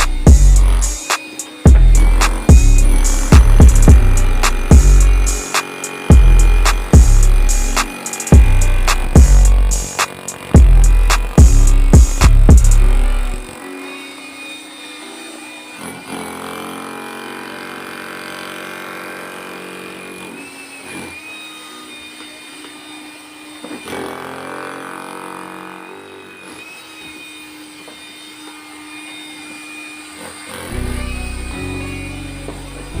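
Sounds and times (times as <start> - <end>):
power tool motor running: 0.0 - 33.0.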